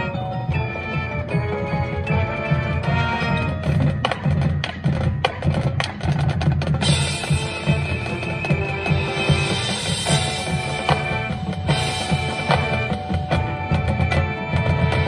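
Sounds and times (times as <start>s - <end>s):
marching band playing: 0.0s - 15.0s
sharp percussion hits: 0.0s - 15.0s.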